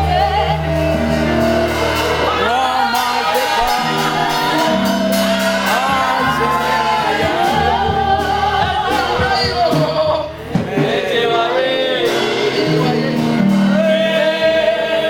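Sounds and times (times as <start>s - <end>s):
gospel worship music: 0.0s - 15.0s.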